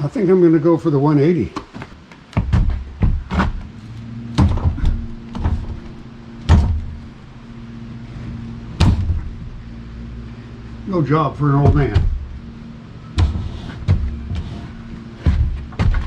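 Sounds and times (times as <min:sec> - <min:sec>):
steady low hum: 0:00.0 - 0:16.0
heavy log knocking and clunking: 0:01.6 - 0:10.8, 0:11.4 - 0:16.0.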